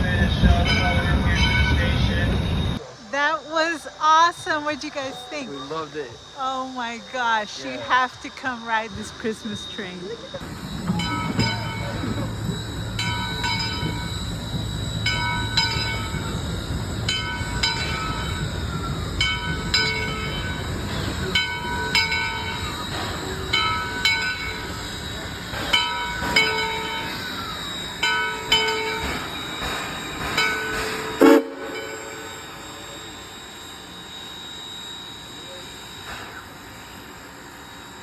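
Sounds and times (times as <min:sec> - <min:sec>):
low train rumble: 0:00.0 - 0:38.0
train bell ringing: 0:00.0 - 0:38.0.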